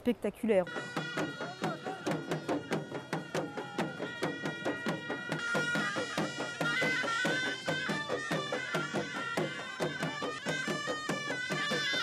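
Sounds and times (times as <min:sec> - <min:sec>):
fast percussion clatter: 0:00.6 - 0:12.0
high reedy wavering tone: 0:00.6 - 0:12.0.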